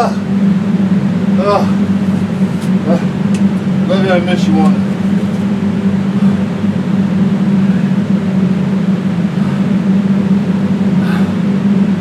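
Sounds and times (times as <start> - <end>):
loud mechanical hum: 0.0 - 12.0.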